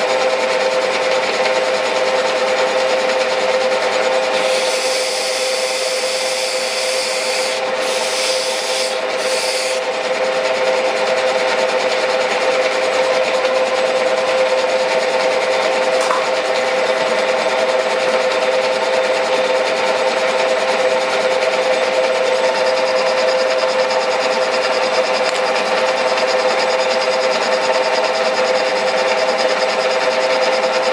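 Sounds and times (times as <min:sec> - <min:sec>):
metal lathe humming: 0:00.0 - 0:30.9.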